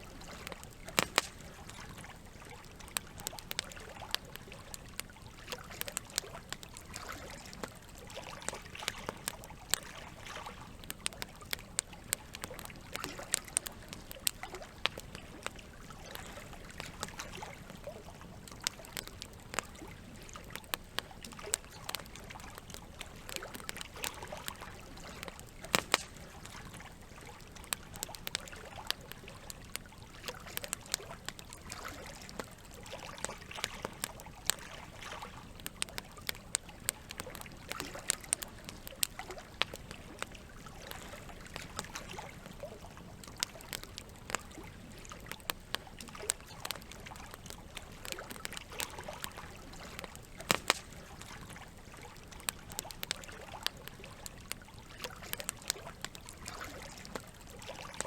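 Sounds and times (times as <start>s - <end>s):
campfire crackling and popping: 0.0s - 58.0s
trickling water: 0.0s - 58.0s.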